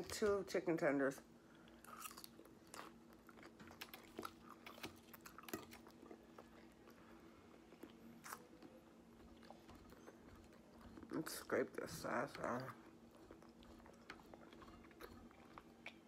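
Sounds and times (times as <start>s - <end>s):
faint low hum: 0.0s - 16.0s
person chewing salad: 1.5s - 16.0s.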